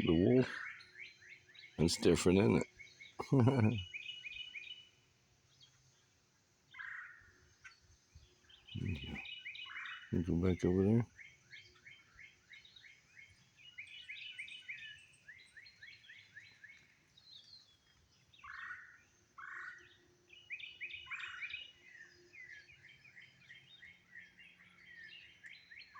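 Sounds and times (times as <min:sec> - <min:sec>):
faint birds chirping: 0:00.0 - 0:25.9.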